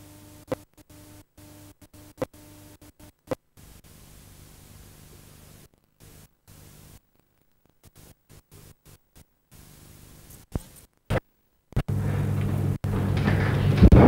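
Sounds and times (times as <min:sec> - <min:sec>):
tape hiss: 0:00.0 - 0:14.0.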